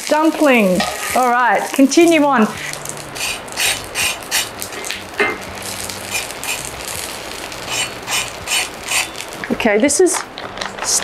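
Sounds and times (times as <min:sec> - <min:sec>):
dumplings sizzling in oil: 0:00.0 - 0:11.0.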